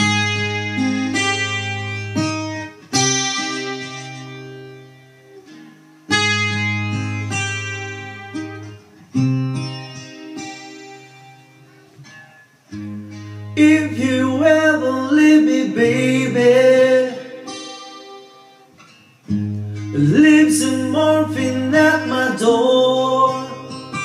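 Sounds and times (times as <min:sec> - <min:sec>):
acoustic guitar chords: 0:00.0 - 0:24.0.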